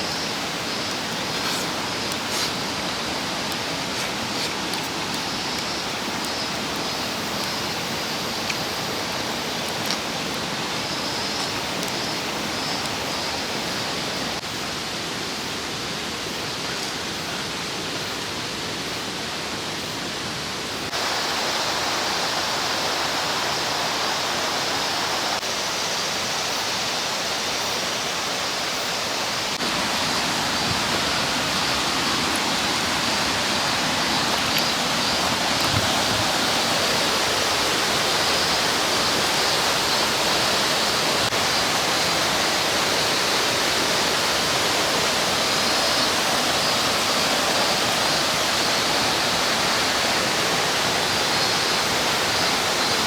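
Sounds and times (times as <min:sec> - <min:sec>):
mountain stream rushing: 0:00.0 - 0:53.0.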